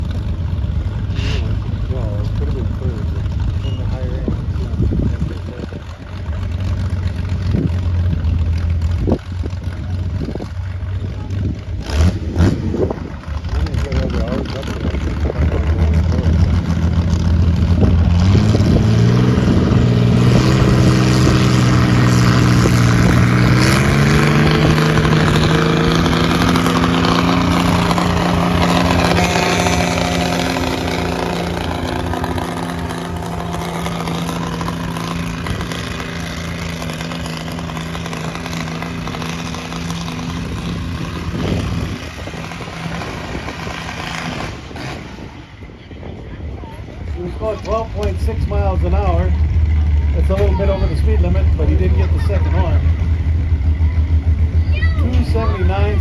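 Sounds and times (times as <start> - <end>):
tractor engine under load: 0.0 - 56.0.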